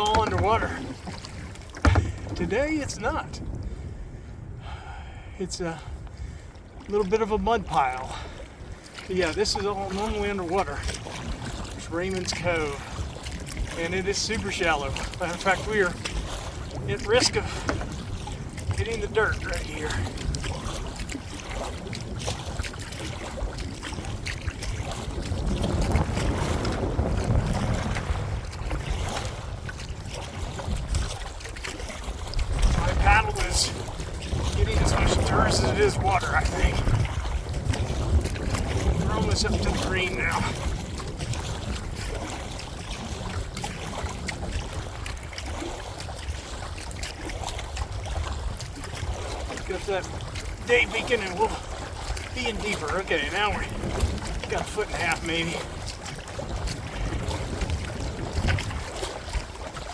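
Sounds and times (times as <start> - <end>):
paddle splashing in shallow water: 0.0 - 59.9
wind buffeting microphone: 0.0 - 59.9.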